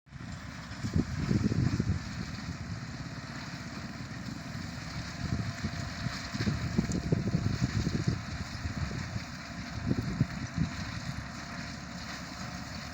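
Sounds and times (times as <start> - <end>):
construction machinery engine rumbling: 0.1 - 12.9.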